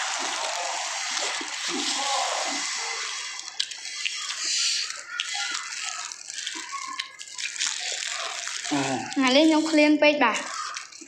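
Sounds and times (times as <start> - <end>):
slurping noodles: 0.0 - 11.0
mouth smacks: 0.4 - 9.2.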